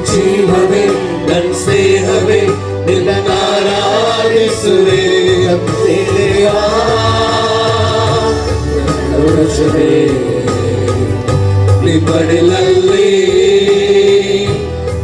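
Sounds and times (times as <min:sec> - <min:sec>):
choir singing: 0:00.0 - 0:14.7
band with bass and drums: 0:00.0 - 0:15.0.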